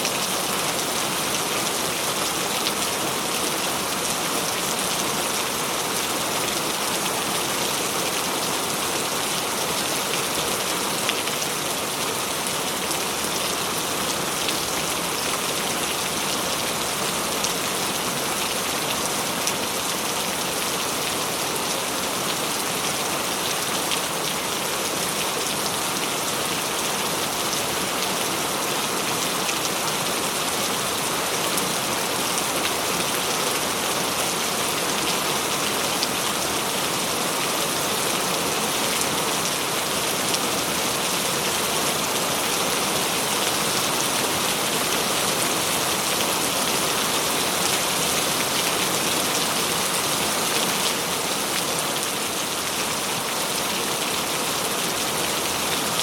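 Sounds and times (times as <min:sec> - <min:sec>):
heavy rain on a surface: 0:00.0 - 0:56.0.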